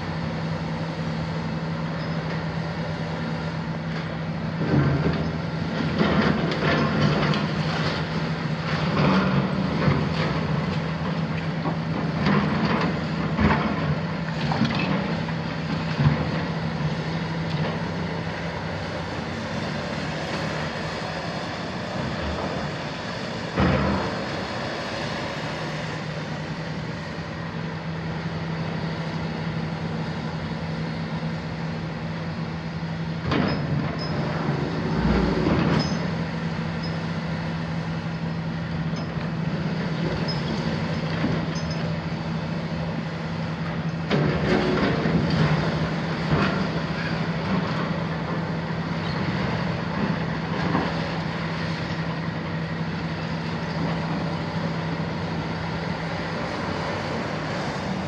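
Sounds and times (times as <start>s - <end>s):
diesel excavator engine running: 0.0s - 58.0s.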